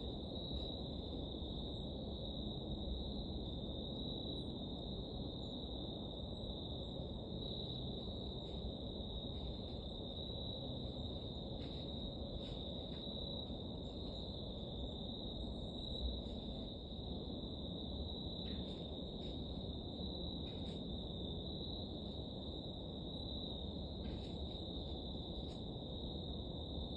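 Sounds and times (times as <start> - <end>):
crickets chirping: 0.0 - 26.9.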